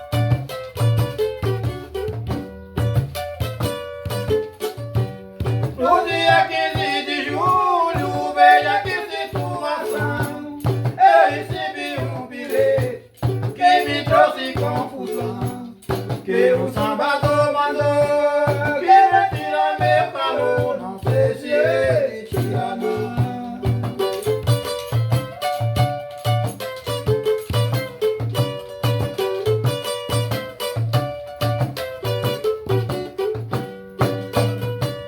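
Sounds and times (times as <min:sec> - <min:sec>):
plucked strings: 0:00.0 - 0:35.0
shaker percussion: 0:00.0 - 0:35.0.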